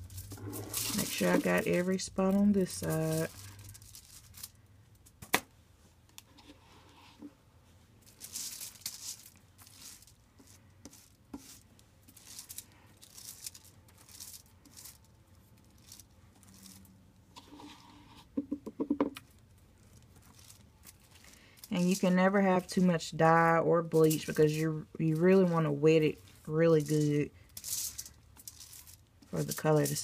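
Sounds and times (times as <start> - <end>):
foil crinkling: 0.0 - 4.6, 8.0 - 16.9, 19.2 - 30.0.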